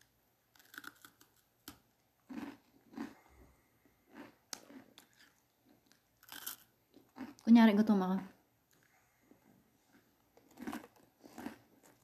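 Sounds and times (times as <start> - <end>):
person chewing food: 0.5 - 7.4, 8.6 - 12.0.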